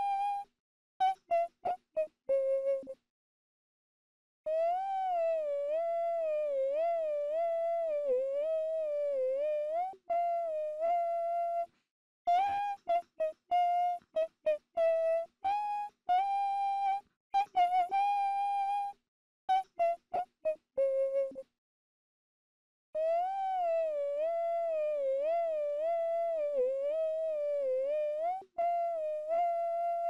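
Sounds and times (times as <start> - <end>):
person humming a melody: 0.0 - 3.0, 4.5 - 11.7, 12.3 - 21.5, 23.0 - 30.0.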